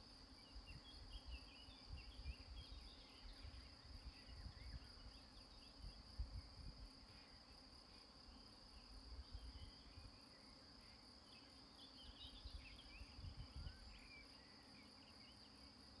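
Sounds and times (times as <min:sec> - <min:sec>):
crickets trilling: 0:00.0 - 0:16.0
faint chirps: 0:00.0 - 0:16.0.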